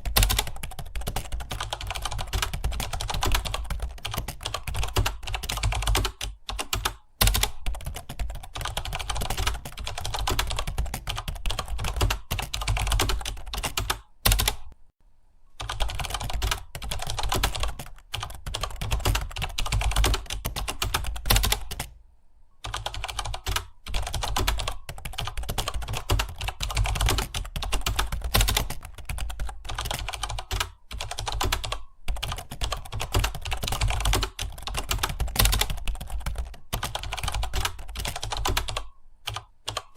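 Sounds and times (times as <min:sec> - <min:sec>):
fast typing on a keyboard: 0:00.0 - 0:14.8, 0:15.6 - 0:22.0, 0:22.6 - 0:39.9.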